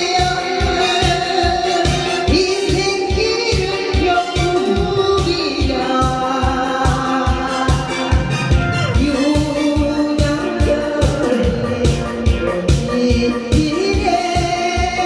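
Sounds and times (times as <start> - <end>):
backing track with driving beat: 0.0 - 15.0
person singing: 0.0 - 15.0.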